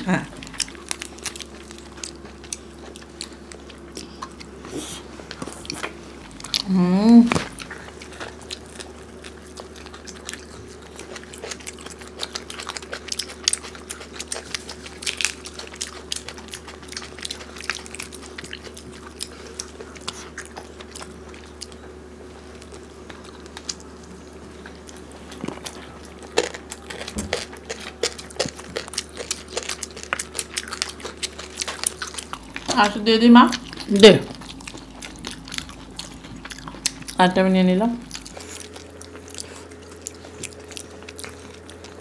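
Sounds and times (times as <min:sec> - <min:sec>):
faint steady hum: 0:00.0 - 0:42.0
wet chewing and mouth smacks: 0:00.4 - 0:06.7, 0:07.3 - 0:37.2, 0:38.0 - 0:42.0.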